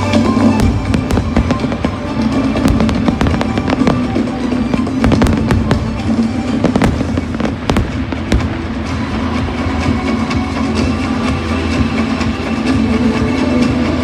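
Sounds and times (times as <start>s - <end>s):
fireworks exploding: 0.0s - 12.4s
music: 0.0s - 14.0s.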